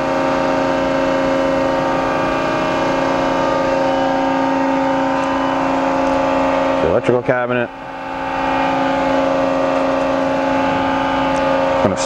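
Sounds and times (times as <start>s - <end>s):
hydraulic pump motor humming: 0.0s - 12.0s.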